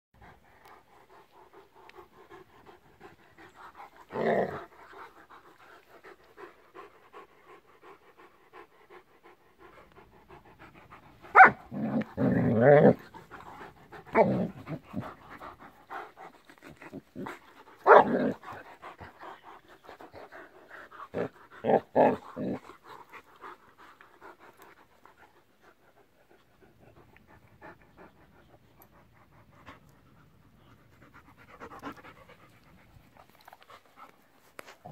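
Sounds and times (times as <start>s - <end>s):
dogs panting: 0.2s - 34.9s
dogs mouthing and scuffling: 0.4s - 7.0s, 9.6s - 34.9s.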